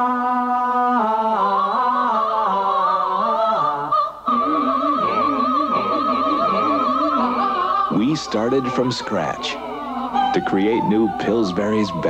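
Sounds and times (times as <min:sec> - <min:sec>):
operatic singing: 0:00.0 - 0:12.0.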